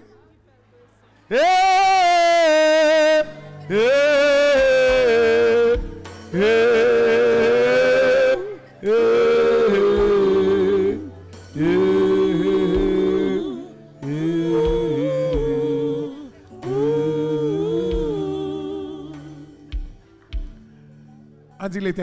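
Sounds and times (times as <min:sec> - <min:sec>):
person singing worship song: 0:01.3 - 0:20.1.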